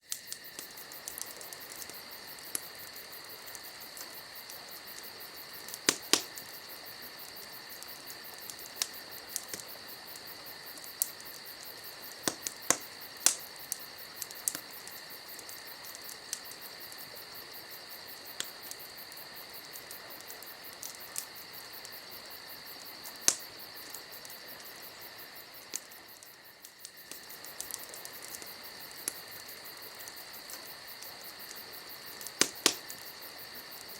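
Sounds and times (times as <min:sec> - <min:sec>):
campfire crackling and popping: 0:00.0 - 0:33.9
crickets chirring: 0:00.0 - 0:33.9.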